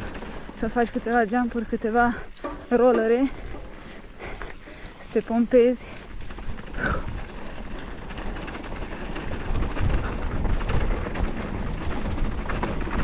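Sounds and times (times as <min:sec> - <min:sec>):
bike rattling: 0:00.0 - 0:13.0
bike tyres crackling over gravel: 0:00.0 - 0:13.0
wind rumbling on microphone: 0:00.0 - 0:13.0.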